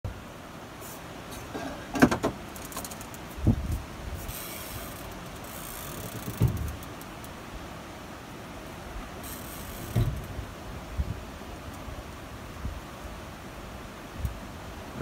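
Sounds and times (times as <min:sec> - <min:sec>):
wind: 0:00.0 - 0:15.0
river water rushing: 0:00.1 - 0:15.0.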